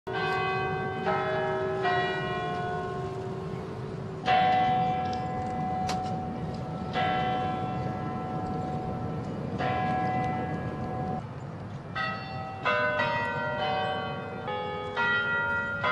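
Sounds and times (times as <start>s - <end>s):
tower bells tolling: 0.1s - 11.3s, 11.9s - 15.9s.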